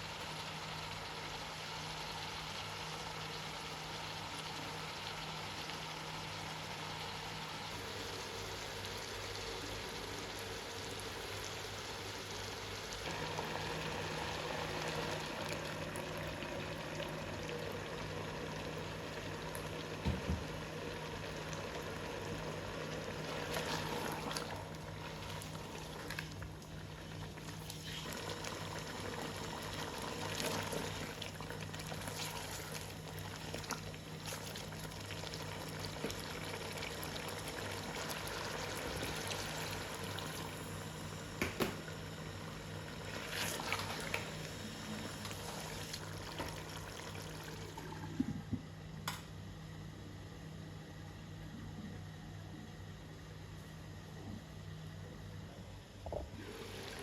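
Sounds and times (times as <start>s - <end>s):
chicken sizzling and bubbling in a pan: 0.0s - 48.5s
low steady hum: 0.0s - 57.0s.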